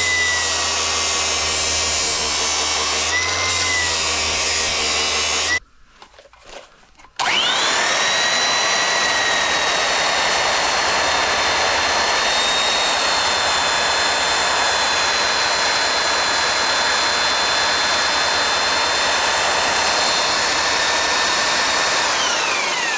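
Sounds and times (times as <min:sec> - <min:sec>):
belt sander grinding metal: 0:00.0 - 0:05.6, 0:07.2 - 0:22.9.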